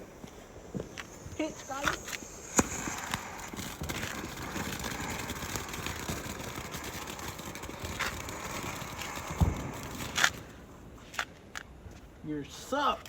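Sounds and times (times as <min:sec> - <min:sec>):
firework hissing and popping: 0:00.0 - 0:11.6.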